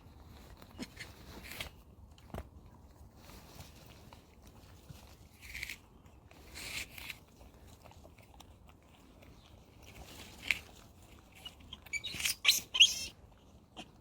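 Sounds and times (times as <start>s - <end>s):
monkey chewing crunchy food: 0.0s - 14.0s.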